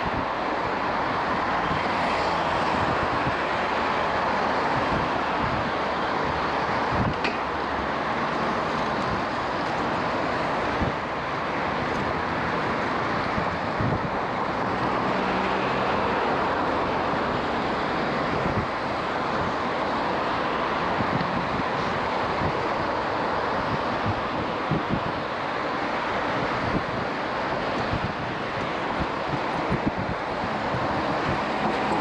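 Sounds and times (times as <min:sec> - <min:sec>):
motor traffic noise: 0:00.0 - 0:32.0
wind rushing over microphone: 0:00.0 - 0:32.0.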